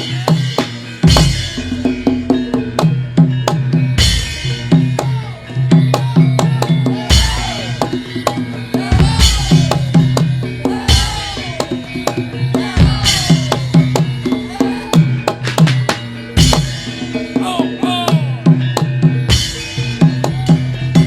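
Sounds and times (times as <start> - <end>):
hand drums in fast rhythm: 0.0 - 21.0
ringing metallic tones: 0.0 - 21.0.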